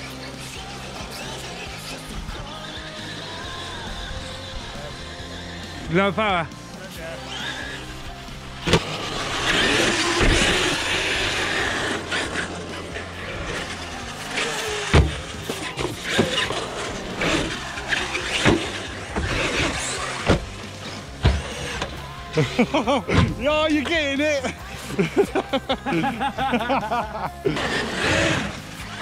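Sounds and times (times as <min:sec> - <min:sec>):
toy truck motor whining: 0:00.0 - 0:24.0, 0:27.4 - 0:29.0.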